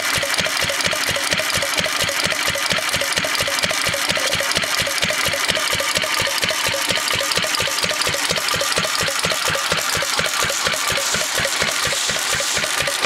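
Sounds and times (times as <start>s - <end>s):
stationary engine idling: 0.0s - 13.0s.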